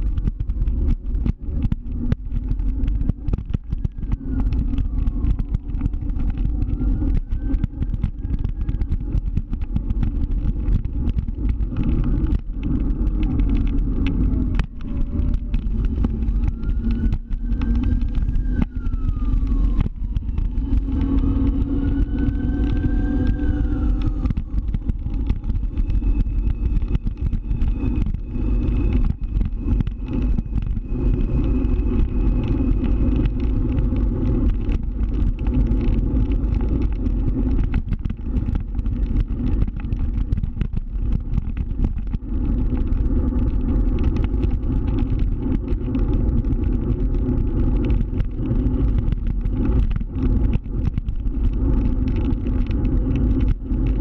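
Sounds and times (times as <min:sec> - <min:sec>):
road and wind noise: 0:00.0 - 0:54.0
scooter engine drone: 0:00.0 - 0:54.0.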